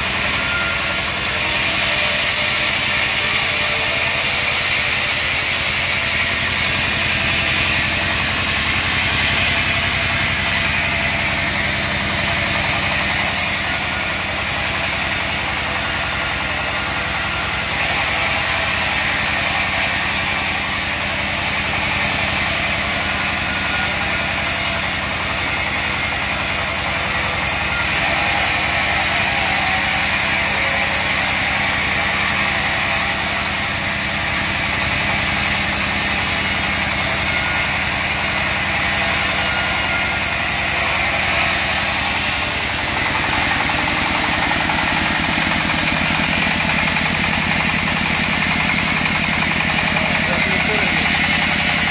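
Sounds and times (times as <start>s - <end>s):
diesel engine driving sawmill: 0.0s - 51.9s.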